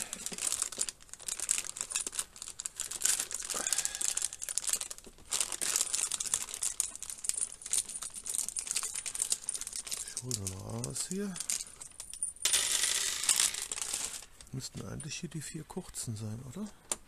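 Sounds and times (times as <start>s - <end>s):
plastic bags crinkling: 0.0s - 15.3s.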